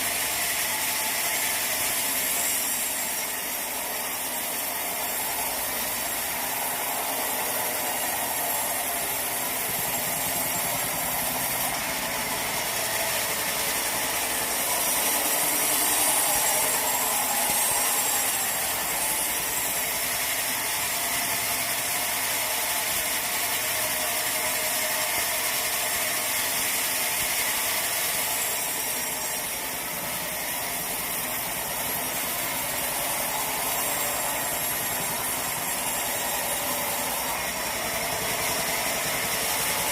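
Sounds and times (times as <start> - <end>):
sawmill saw grinding: 0.0 - 39.9.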